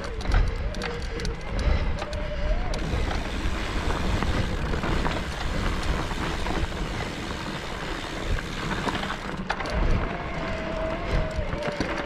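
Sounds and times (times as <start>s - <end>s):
bike clicks and rattles: 0.0s - 12.0s
tyres over dirt and rock: 0.0s - 12.0s
wind on microphone: 0.0s - 12.0s.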